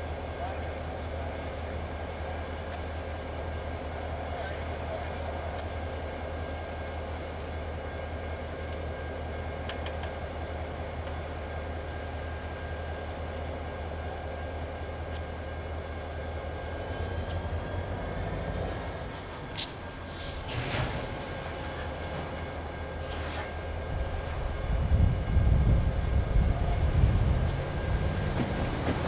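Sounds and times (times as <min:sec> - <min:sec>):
diesel locomotive idling: 0:00.0 - 0:29.0.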